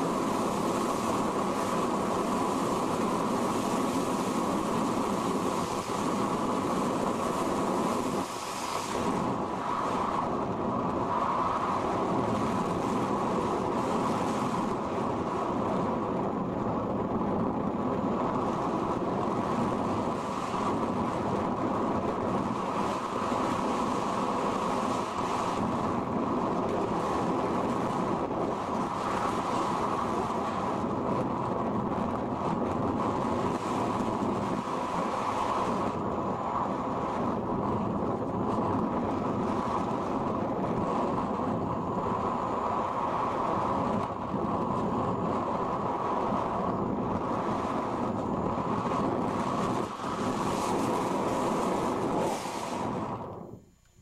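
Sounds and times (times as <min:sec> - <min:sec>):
air rushing over microphone: 0:00.0 - 0:53.6.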